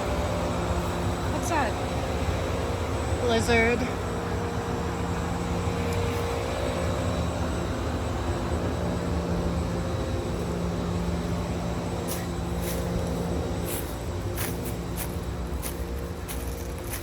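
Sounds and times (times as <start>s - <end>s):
air conditioning units humming: 0.0s - 17.0s.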